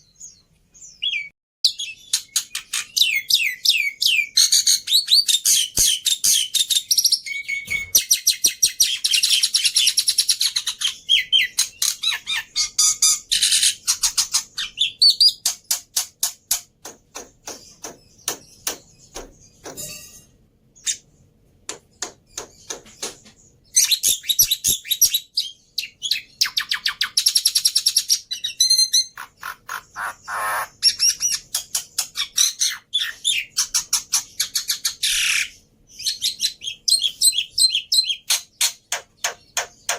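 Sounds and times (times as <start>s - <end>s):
bird singing chirps and trills: 0.0s - 15.8s, 17.4s - 39.9s.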